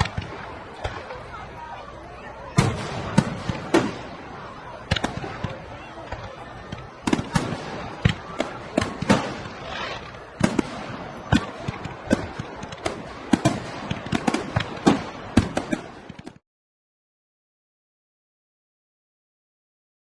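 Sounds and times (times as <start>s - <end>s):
fireworks bangs: 0.0s - 16.4s
fireworks crackling: 0.0s - 16.4s.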